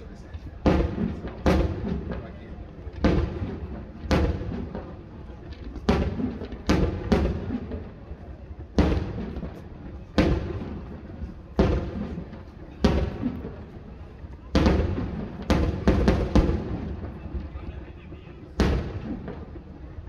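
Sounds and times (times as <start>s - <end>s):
fireworks booming: 0.0s - 20.0s.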